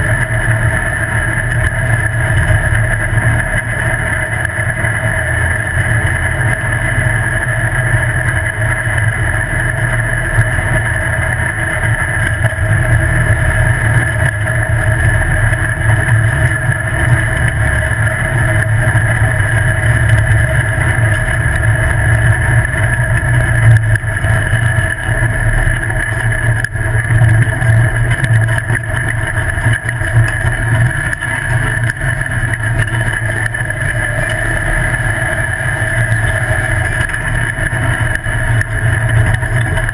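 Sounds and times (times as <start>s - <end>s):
buggy engine running loudly: 0.0s - 39.9s.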